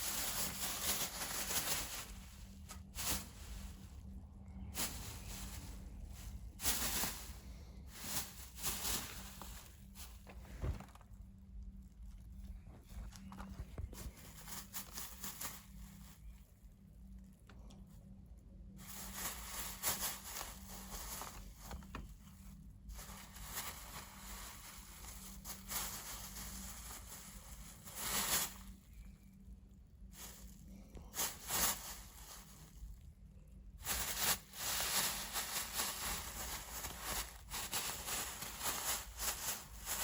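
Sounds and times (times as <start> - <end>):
plastic bag rustling: 0.0 - 11.4, 12.1 - 16.4, 18.8 - 29.0, 30.1 - 40.0.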